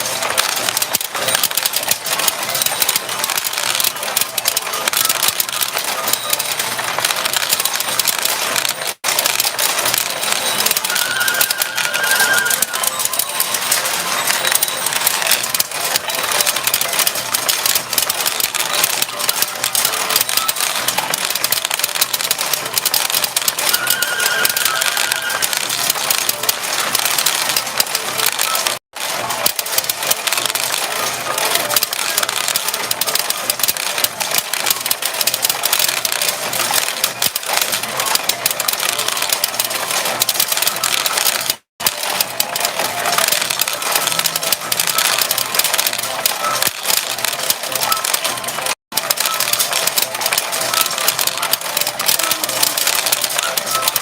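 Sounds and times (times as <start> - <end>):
steel balls rattling: 0.0 - 54.0.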